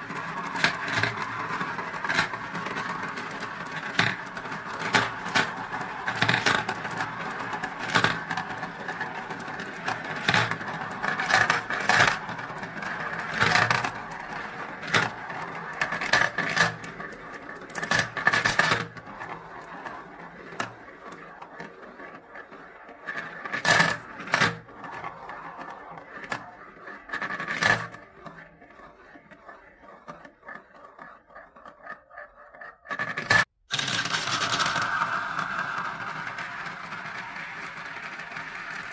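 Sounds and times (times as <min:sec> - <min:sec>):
marbles rolling in plastic funnels: 0:00.0 - 0:38.9.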